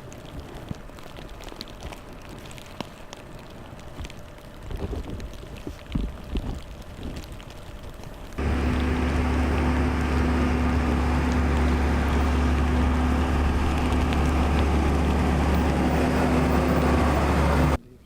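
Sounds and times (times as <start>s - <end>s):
engine running steadily: 0.0s - 17.8s.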